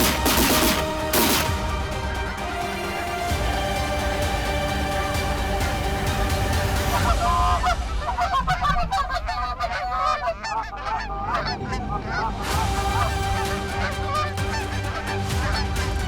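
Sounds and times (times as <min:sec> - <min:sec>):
geese honking and clucking: 0:00.0 - 0:16.0.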